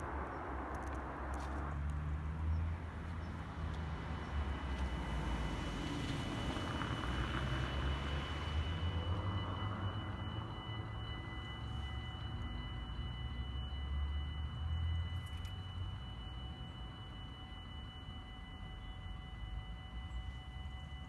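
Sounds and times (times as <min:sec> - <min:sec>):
level crossing warning bells: 0:00.0 - 0:21.0
low steady rumble: 0:00.0 - 0:21.0.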